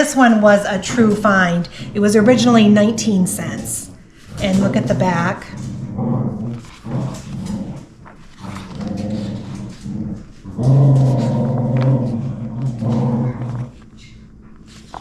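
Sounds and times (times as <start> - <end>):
dog growling and whining: 0.8 - 15.0.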